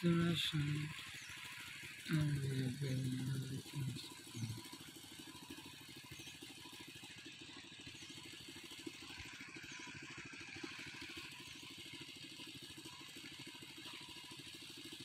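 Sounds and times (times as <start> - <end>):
small engine puttering: 0.0 - 15.0.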